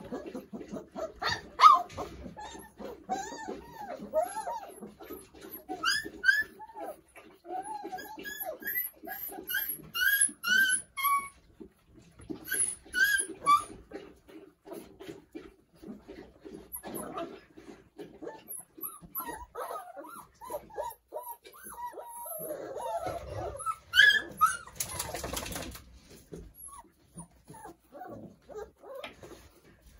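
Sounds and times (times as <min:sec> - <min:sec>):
puppies eating: 0:00.0 - 0:29.9
puppies squealing and whining: 0:00.0 - 0:29.9.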